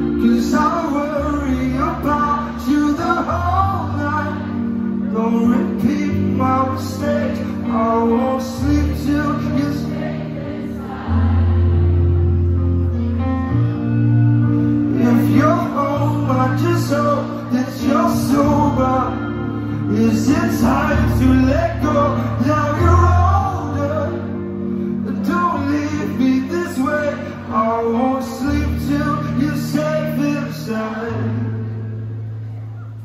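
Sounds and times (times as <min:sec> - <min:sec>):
man singing: 0:00.0 - 0:10.4, 0:14.7 - 0:32.1
acoustic guitar: 0:00.0 - 0:33.0
keyboard sustained low notes: 0:00.0 - 0:33.0.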